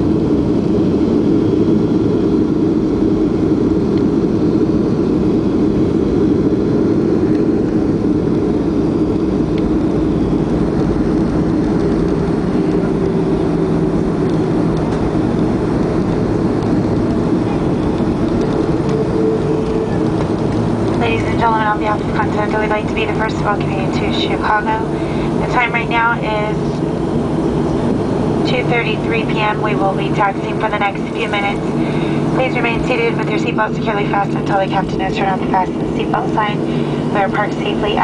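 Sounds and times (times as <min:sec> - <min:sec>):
airplane cabin rumble: 0:00.0 - 0:38.0
faint hum: 0:00.0 - 0:38.0.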